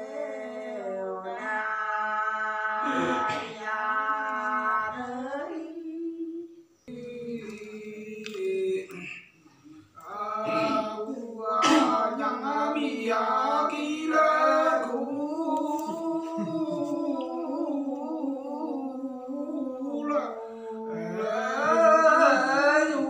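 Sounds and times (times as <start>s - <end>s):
person singing unaccompanied: 0.0s - 23.0s.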